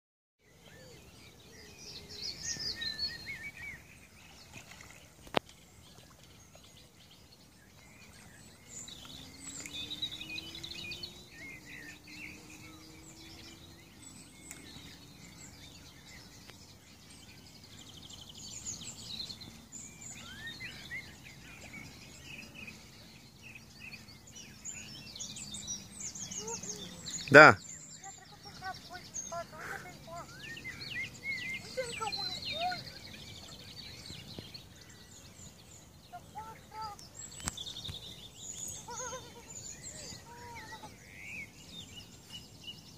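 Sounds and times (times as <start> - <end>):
small birds chirping and singing: 0.4 - 42.9.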